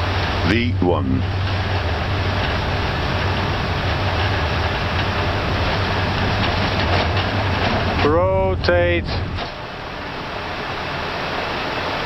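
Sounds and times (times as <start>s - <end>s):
jet engines and wheels rumbling: 0.0s - 12.0s.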